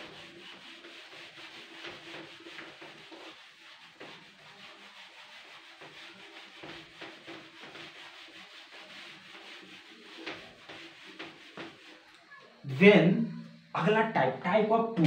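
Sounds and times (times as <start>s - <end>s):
eraser wiping whiteboard: 0.0s - 12.1s.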